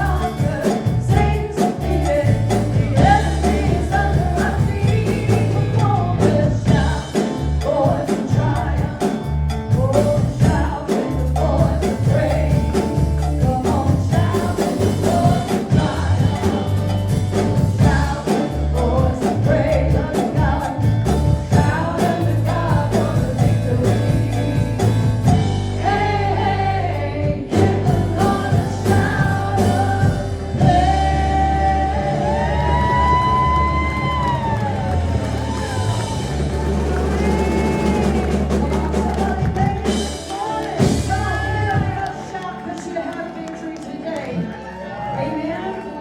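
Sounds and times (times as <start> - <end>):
gospel song with band: 0.0 - 46.0.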